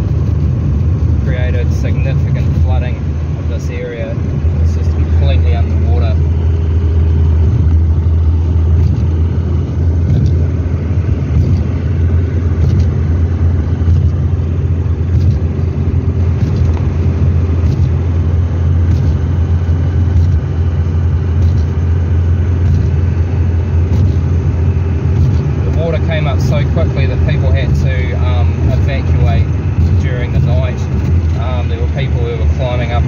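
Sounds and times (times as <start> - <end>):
car engine cruising: 0.0 - 33.0
road noise: 0.0 - 33.0.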